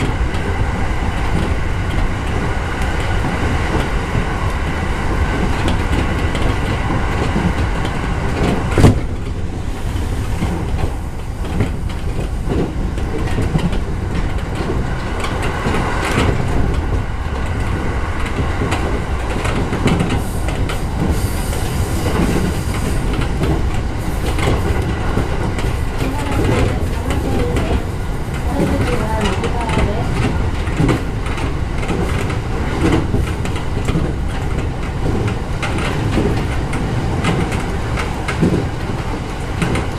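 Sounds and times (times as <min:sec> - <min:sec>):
rail-joint clicks: 0:00.0 - 0:39.9
train wheels rumbling on rail: 0:00.0 - 0:39.9.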